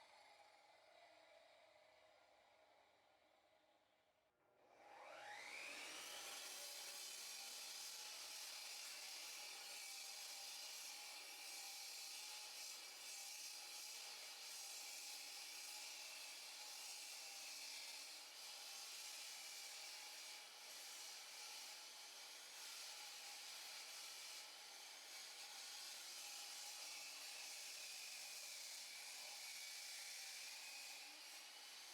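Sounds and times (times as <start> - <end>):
power saw cutting concrete: 4.9 - 31.9.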